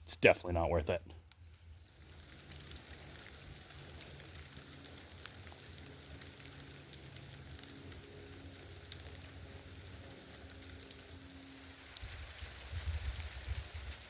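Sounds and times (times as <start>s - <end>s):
low steady hum: 0.0s - 14.0s
steady rain: 1.7s - 14.0s.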